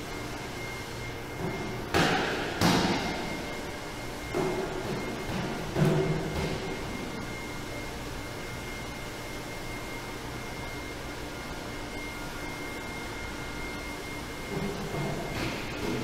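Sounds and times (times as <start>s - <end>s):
high steady whine: 0.0s - 16.0s
machinery mechanical hum: 0.0s - 16.0s.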